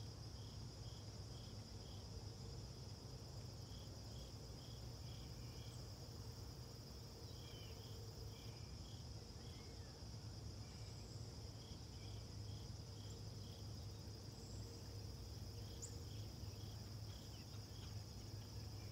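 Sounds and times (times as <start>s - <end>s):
cricket chirps: 0.0s - 18.9s
crickets trilling: 3.4s - 18.9s.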